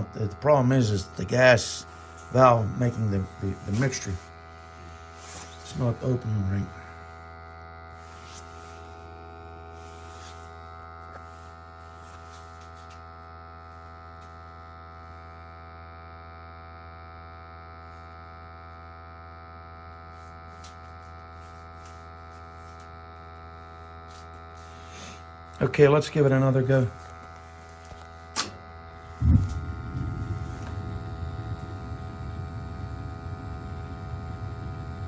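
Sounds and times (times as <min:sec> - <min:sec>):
low buzzing hum of equipment: 0:00.0 - 0:35.0.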